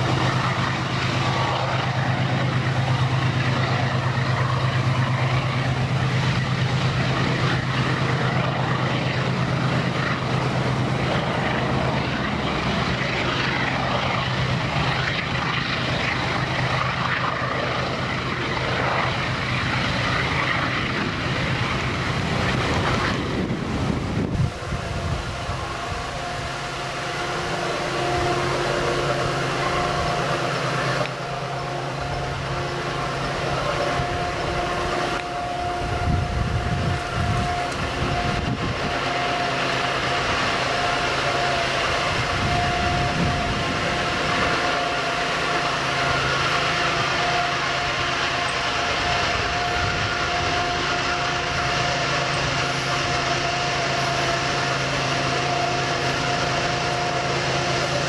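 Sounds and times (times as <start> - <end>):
locomotive engine drone: 0.0 - 58.0
steady whine: 0.0 - 58.0.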